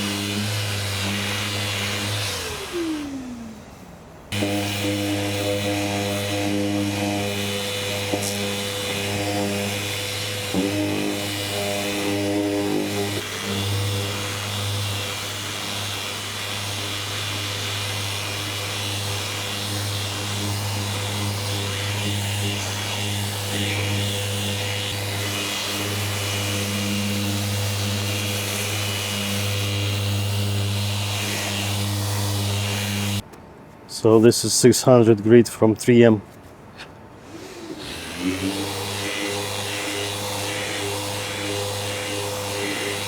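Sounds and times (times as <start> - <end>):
power sander motor hum: 0.0 - 33.2, 37.3 - 43.0.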